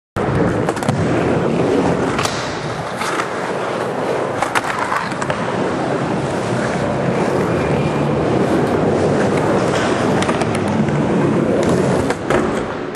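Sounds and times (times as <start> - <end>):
skateboard clacks: 0.2 - 12.9
skateboard wheels rolling on concrete: 0.2 - 12.9.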